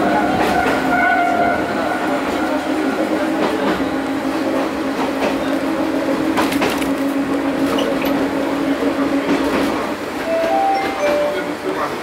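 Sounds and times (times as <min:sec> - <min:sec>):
train rolling noise: 0:00.0 - 0:12.0.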